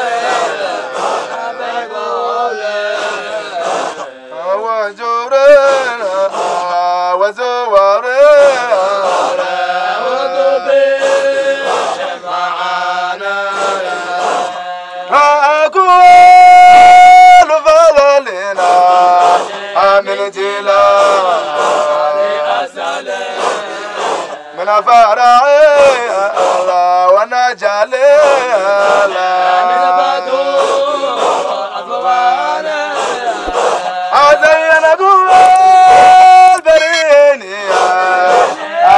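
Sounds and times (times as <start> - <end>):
men chanting: 0.0 - 38.9.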